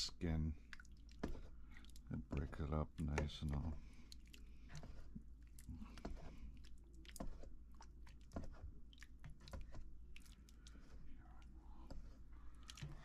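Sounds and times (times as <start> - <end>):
wet squelches of meat mashing: 0.4 - 13.0.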